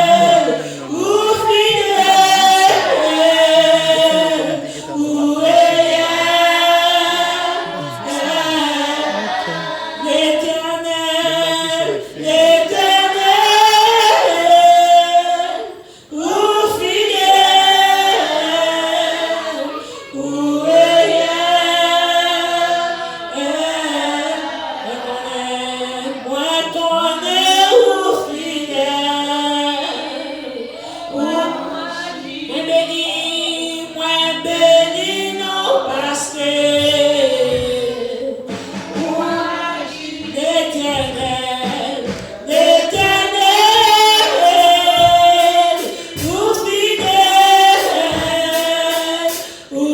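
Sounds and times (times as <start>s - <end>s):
congregation singing: 0.0s - 49.9s.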